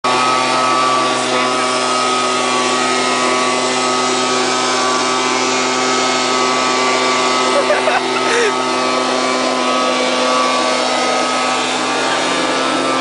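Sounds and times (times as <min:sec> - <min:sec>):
gas leaf blower running: 0:00.0 - 0:13.0.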